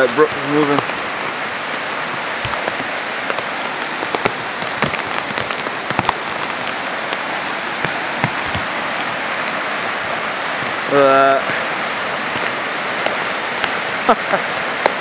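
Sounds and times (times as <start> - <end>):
rain drops tapping on plastic: 0.0 - 15.0
rushing water: 0.0 - 15.0.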